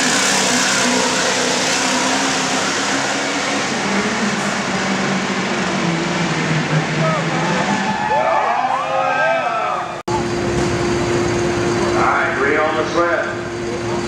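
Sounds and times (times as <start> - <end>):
truck engine droning under load: 0.0 - 14.0.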